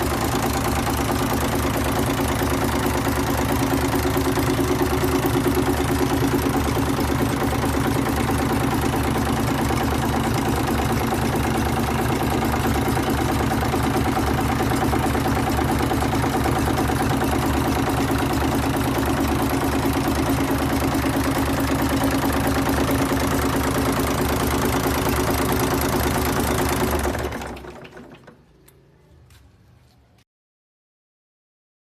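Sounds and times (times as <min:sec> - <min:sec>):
diesel engine running: 0:00.0 - 0:28.4.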